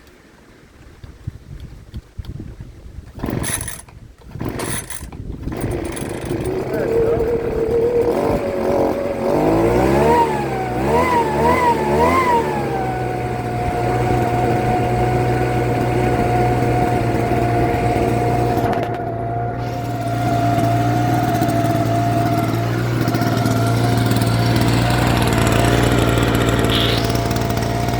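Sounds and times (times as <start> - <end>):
leaf blower engine revving: 3.1 - 27.9.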